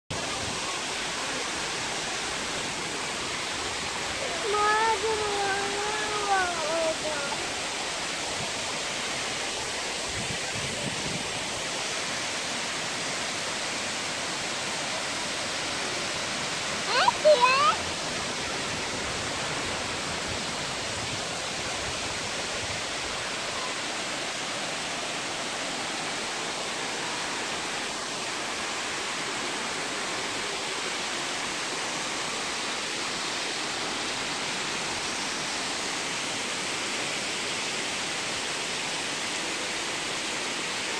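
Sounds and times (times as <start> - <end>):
waterfall pouring into pool: 0.2 - 40.9.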